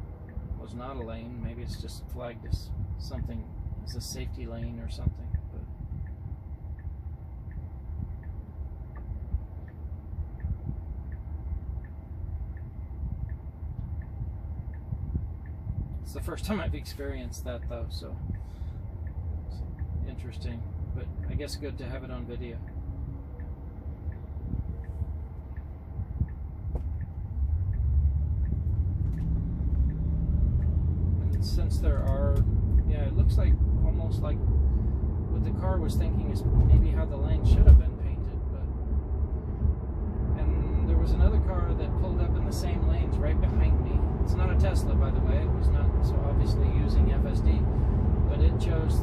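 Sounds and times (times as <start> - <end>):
road noise rumble: 0.0 - 49.0
turn signal ticking: 0.0 - 49.0.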